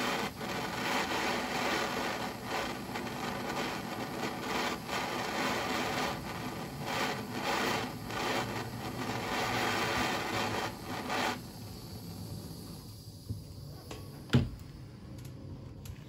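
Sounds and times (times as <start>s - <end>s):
propane torch hissing: 0.0s - 16.0s.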